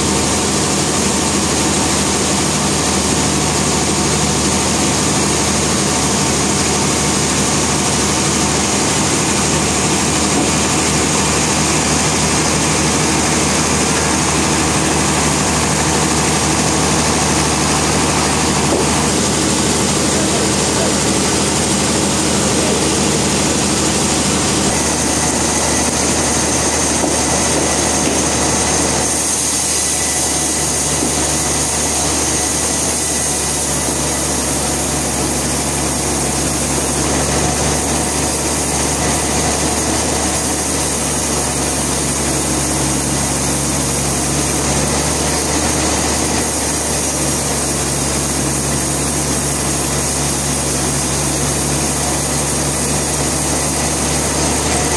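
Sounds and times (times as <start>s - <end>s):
sawmill machinery humming and whining: 0.0s - 54.9s.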